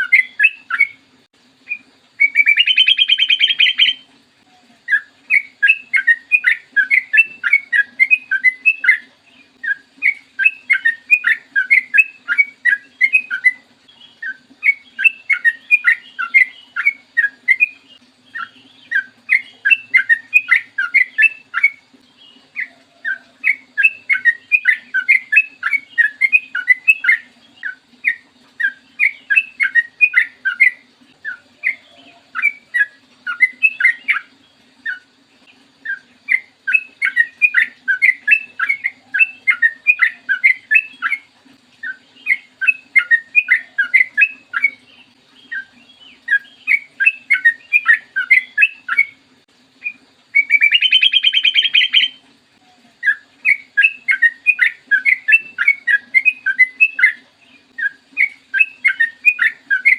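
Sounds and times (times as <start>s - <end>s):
bird chattering song: 0.0s - 1.0s, 1.7s - 4.1s, 4.8s - 49.2s, 49.8s - 52.2s, 53.0s - 59.9s.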